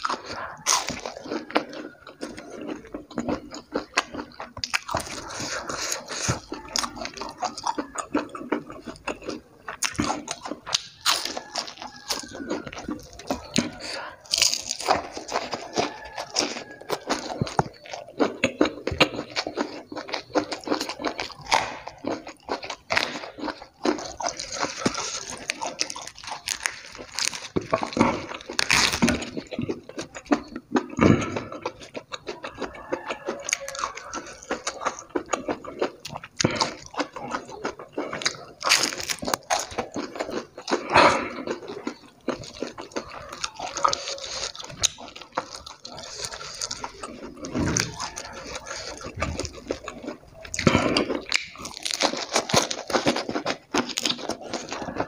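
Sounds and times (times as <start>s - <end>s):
man chewing and crunching: 0.0s - 55.0s.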